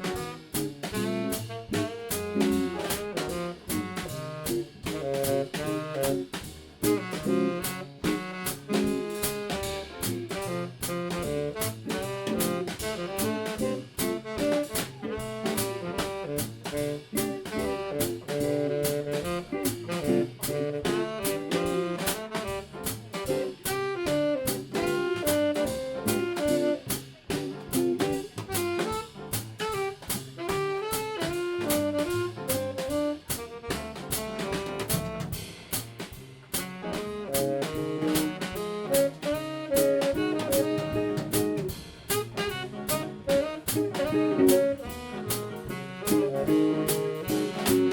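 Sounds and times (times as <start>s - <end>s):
tenor saxophone: 0.0s - 35.5s, 36.5s - 47.9s
bass: 0.0s - 47.9s
drum kit cymbals: 0.0s - 47.9s.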